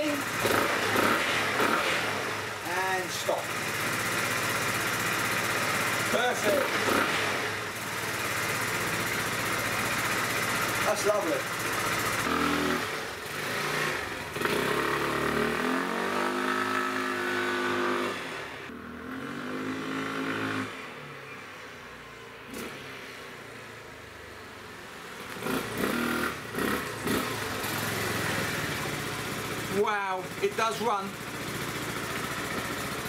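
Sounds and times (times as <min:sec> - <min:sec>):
scooter throttle bursts: 0:00.0 - 0:20.8, 0:25.2 - 0:33.0
scooter engine accelerating: 0:00.0 - 0:21.0, 0:25.0 - 0:33.0.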